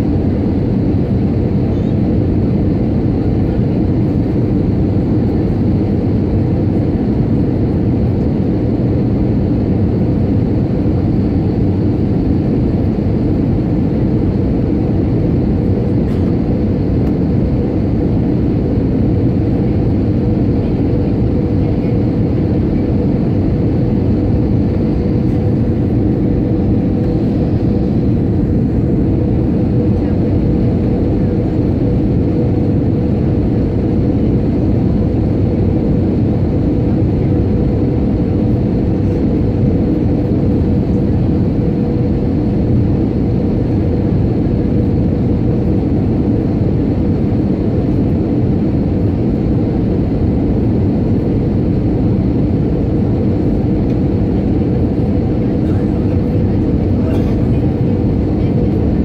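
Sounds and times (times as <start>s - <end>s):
aircraft engine drone: 0.0s - 59.0s.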